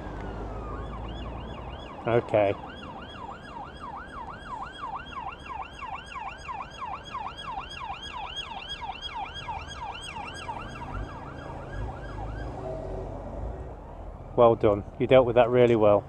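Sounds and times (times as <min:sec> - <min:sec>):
emergency siren yelping: 0:00.0 - 0:13.1.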